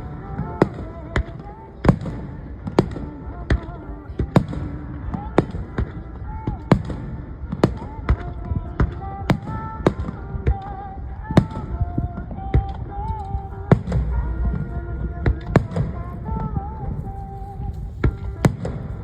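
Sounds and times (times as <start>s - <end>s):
fireworks bangs: 0.0s - 19.0s
music with held melody: 0.0s - 19.0s.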